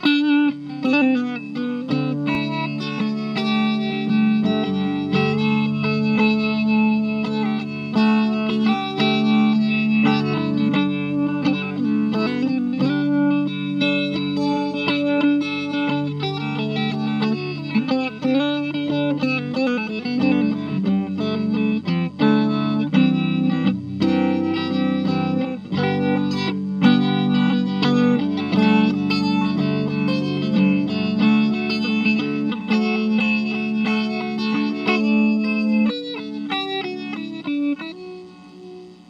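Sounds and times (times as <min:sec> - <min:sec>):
electric guitar with modulation effect: 0:00.0 - 0:39.0.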